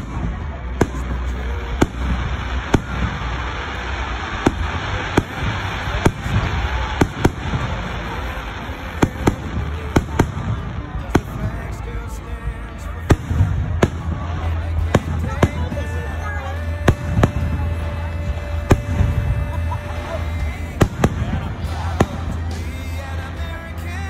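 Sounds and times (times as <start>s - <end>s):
continuous rumble: 0.0s - 24.0s.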